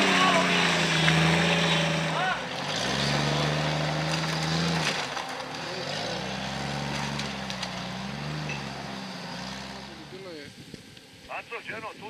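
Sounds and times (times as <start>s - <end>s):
off-road engine revving: 0.0s - 10.5s.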